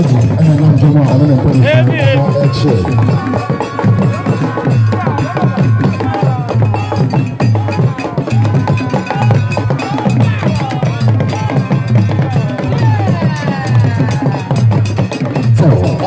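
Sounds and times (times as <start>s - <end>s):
people singing: 1.5s - 16.0s.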